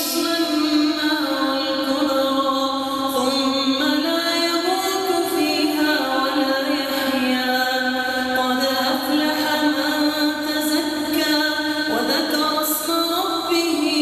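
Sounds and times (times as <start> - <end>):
person chanting recitation: 0.0 - 14.0.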